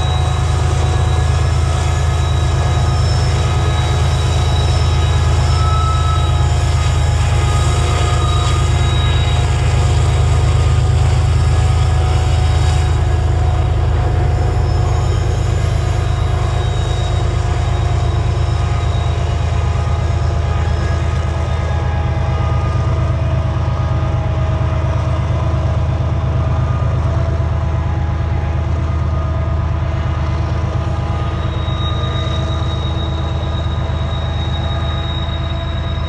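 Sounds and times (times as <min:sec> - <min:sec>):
diesel locomotives rumbling: 0:00.0 - 0:36.0
high squeal: 0:00.0 - 0:36.0
train cars rolling on rails: 0:00.0 - 0:36.0.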